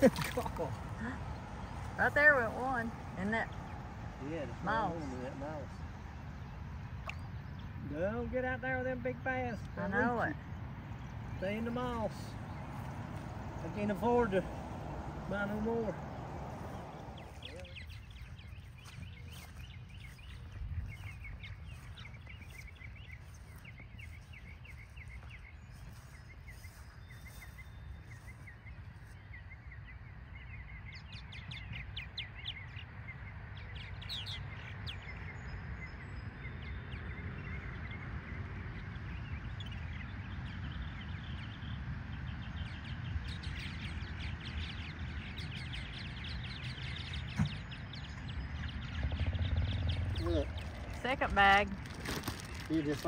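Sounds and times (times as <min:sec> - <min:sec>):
steady low rumble: 0:00.2 - 0:53.0.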